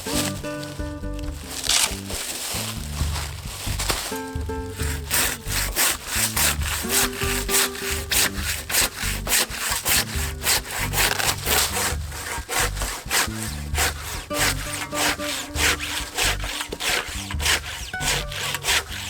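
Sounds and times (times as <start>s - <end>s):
hand saw cutting wood: 0.0s - 19.0s.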